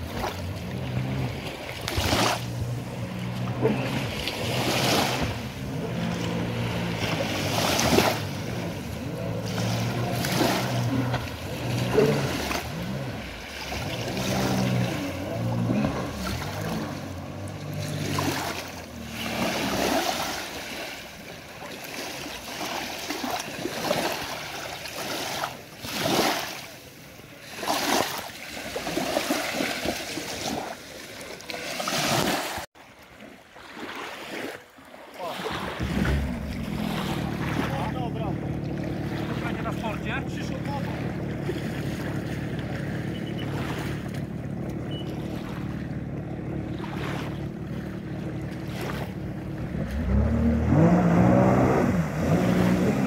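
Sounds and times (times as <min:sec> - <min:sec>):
jet ski engine humming: 0:00.0 - 0:53.0
rushing water: 0:00.0 - 0:53.0.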